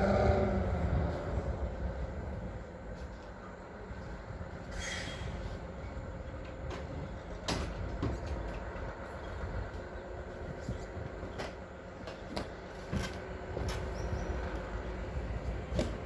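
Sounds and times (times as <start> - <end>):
truck engine low rumble: 0.0 - 16.0.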